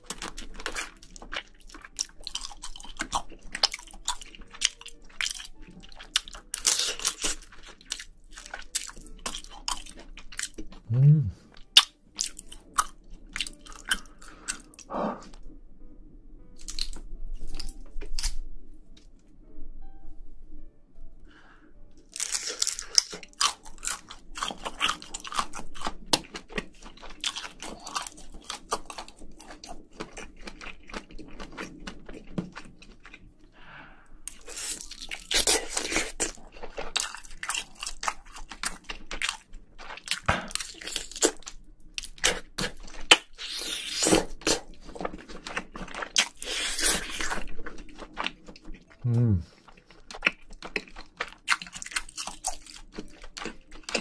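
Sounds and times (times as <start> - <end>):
chewing and crunching food: 0.0 - 15.6, 16.6 - 18.5, 22.0 - 54.0.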